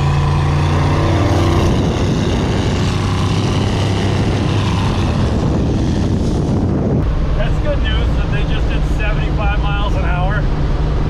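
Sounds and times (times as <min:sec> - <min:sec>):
vehicle engine: 0:00.0 - 0:11.0
wind and road noise: 0:00.0 - 0:11.0.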